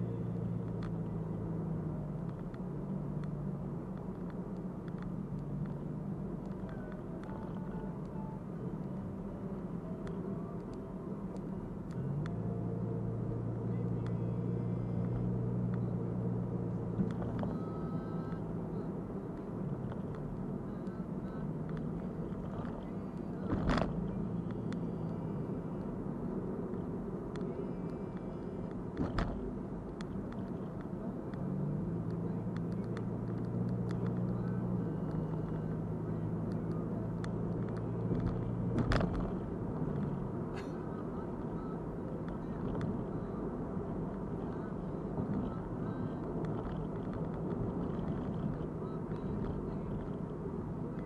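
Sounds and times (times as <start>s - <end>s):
car engine hum: 0.0s - 51.0s
road noise: 0.0s - 51.0s.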